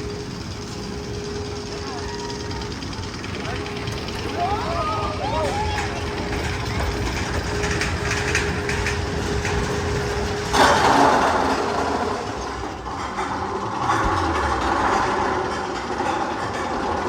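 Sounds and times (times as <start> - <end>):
roller coaster clattering on track: 0.0 - 17.0.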